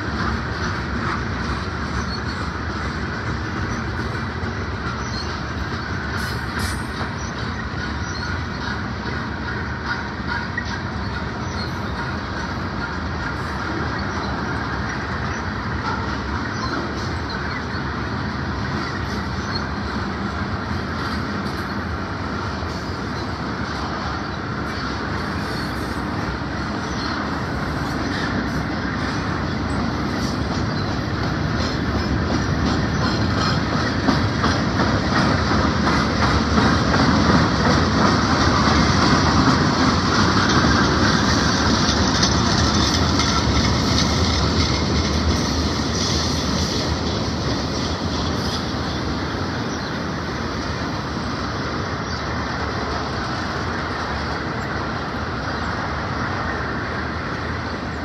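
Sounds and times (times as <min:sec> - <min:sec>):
freight train rumbling past: 0:00.0 - 0:58.0
wheels clattering over rail joints: 0:00.0 - 0:58.0.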